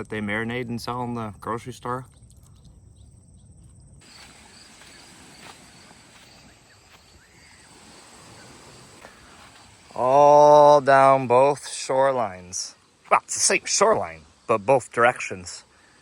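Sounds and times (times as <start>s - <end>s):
high insect drone: 2.6s - 16.0s.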